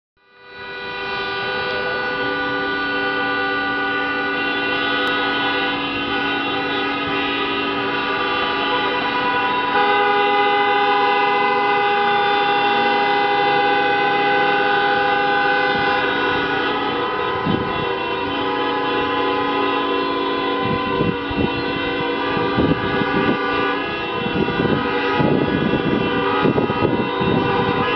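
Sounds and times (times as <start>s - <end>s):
car horns sounding: 0.2s - 27.9s
loud car horn: 0.2s - 27.9s.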